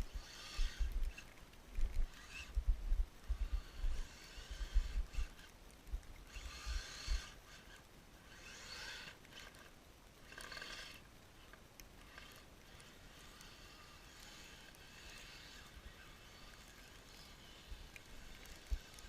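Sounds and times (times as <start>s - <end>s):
electric motor and gears whining: 0.0s - 2.7s, 3.3s - 5.5s, 6.2s - 19.0s.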